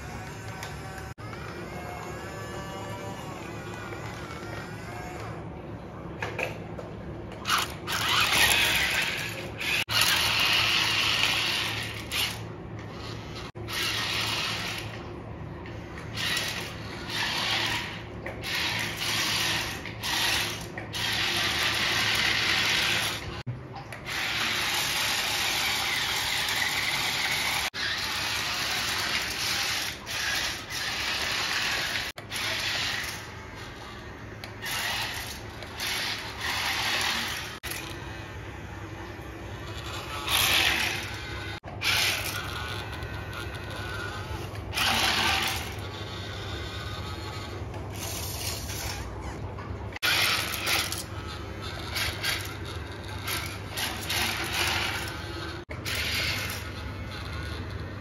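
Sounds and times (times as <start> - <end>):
small electric motors whirring: 0.0 - 58.0.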